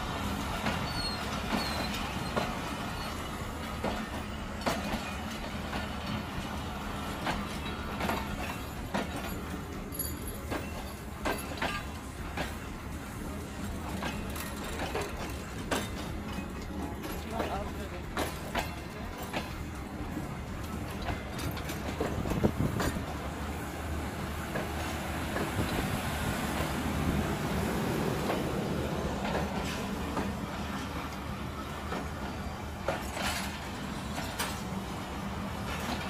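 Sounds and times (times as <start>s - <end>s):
train engine drone: 0.0s - 36.0s
wheels clacking over rail joints: 0.0s - 36.0s.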